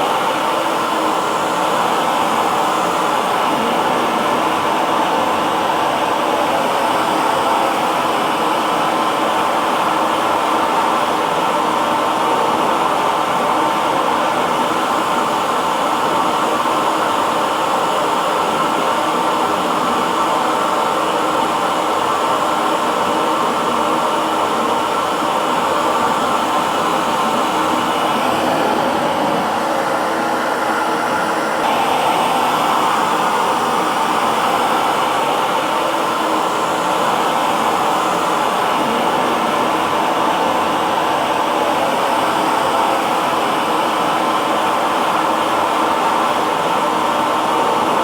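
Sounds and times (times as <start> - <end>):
hair dryer blowing: 0.0 - 48.0.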